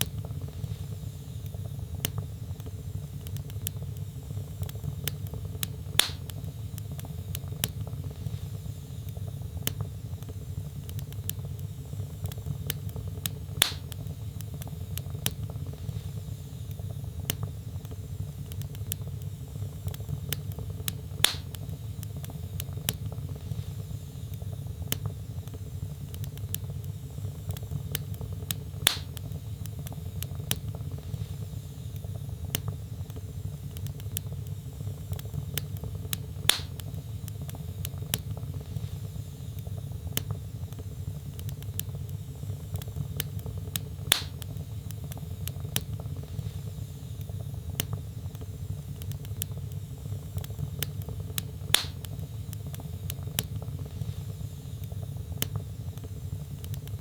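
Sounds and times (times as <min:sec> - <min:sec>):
sharp fire pops: 0:00.0 - 0:57.0
wood logs burning: 0:00.0 - 0:57.0.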